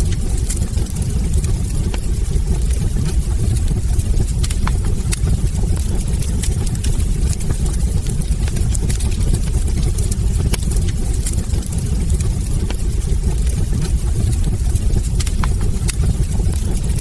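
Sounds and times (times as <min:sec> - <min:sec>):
fire crackles and pops: 0:00.0 - 0:17.0
wood fire roaring: 0:00.0 - 0:17.0.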